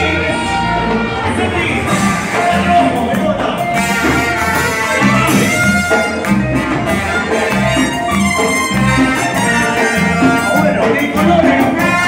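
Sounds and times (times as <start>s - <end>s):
latin dance music with brass: 0.0s - 12.0s.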